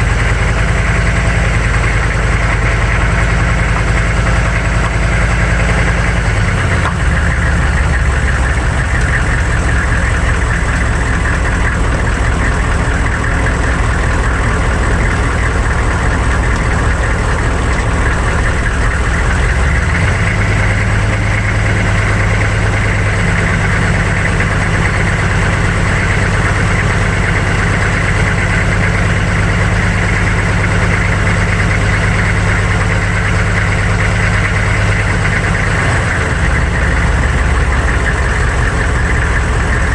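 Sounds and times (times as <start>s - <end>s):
diesel truck engine running: 0.0s - 39.9s
road and wind noise: 0.0s - 39.9s.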